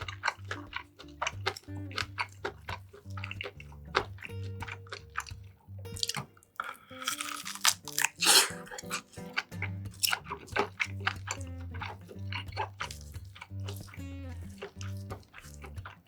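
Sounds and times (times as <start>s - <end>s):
background music with bass line: 0.0s - 6.3s, 7.0s - 16.0s
chewing and biting food: 0.0s - 16.0s.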